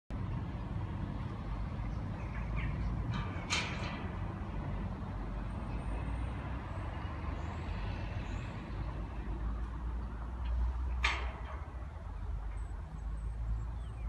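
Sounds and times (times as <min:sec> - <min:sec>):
diesel engine rumbling: 0:00.1 - 0:14.0.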